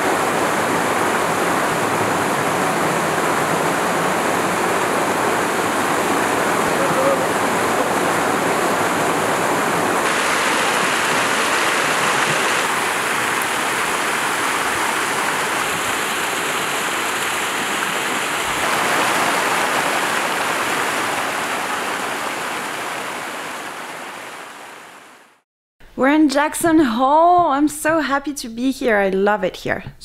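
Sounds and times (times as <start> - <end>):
waterfalls rushing into pools: 0.0 - 25.4.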